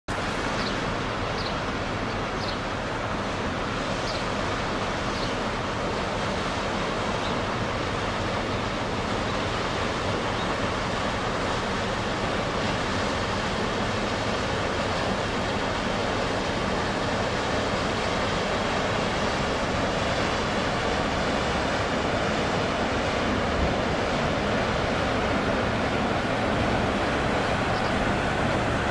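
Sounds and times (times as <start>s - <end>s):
bow wave rushing and splashing: 2.7s - 28.9s.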